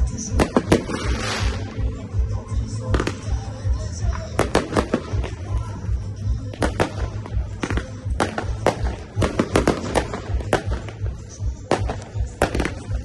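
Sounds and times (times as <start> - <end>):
fireworks bangs: 0.0 - 13.0
music with steady bass beat: 0.0 - 13.0.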